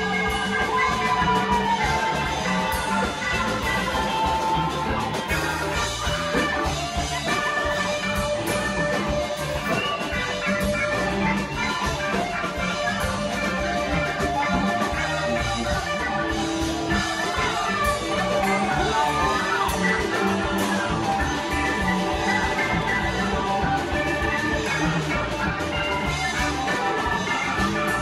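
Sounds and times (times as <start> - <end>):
drum kit beat: 0.0 - 28.0
live rock band playing: 0.0 - 28.0.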